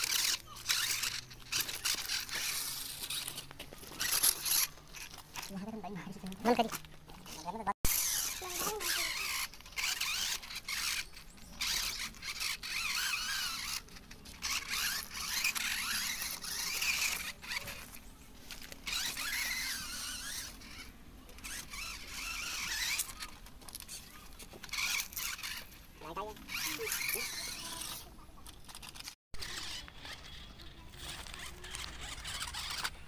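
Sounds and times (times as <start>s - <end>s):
toy truck electric motor whining: 0.0s - 5.5s, 6.4s - 33.0s.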